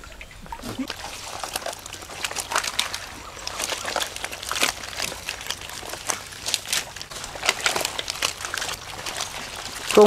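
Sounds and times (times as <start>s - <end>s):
splashing in muddy water: 0.0s - 10.0s.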